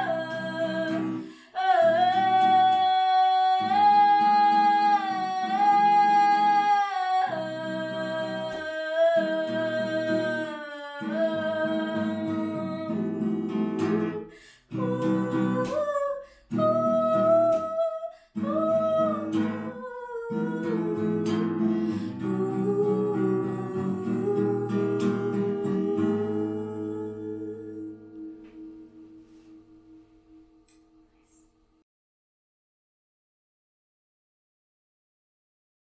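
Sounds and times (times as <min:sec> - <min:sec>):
person singing slow melody: 0:00.0 - 0:30.2
acoustic guitar: 0:00.0 - 0:31.5.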